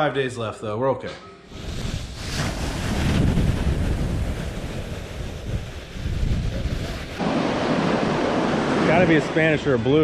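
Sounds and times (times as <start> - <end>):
ocean surf breaking: 1.5 - 10.0
wind buffeting microphone: 1.5 - 10.0.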